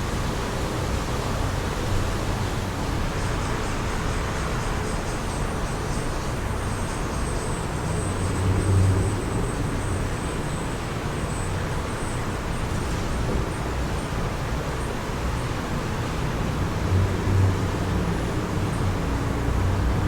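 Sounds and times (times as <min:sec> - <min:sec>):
distant road traffic rumble: 0:00.0 - 0:20.0.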